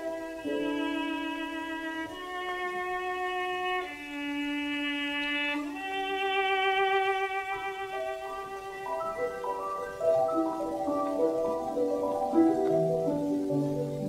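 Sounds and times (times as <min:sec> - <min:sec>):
cello playing slow melody: 0:00.0 - 0:14.0.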